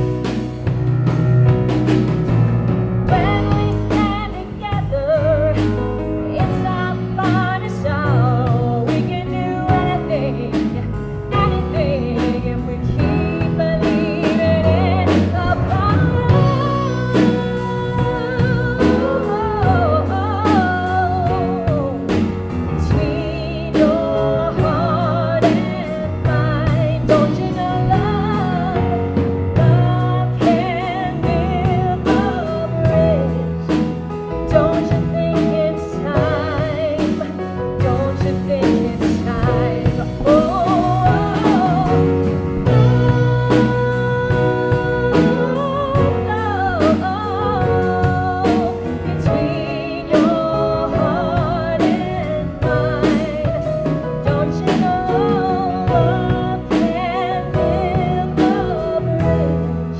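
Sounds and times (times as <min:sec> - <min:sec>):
live band playing: 0:00.0 - 0:59.9
woman singing with vibrato: 0:03.1 - 0:59.9.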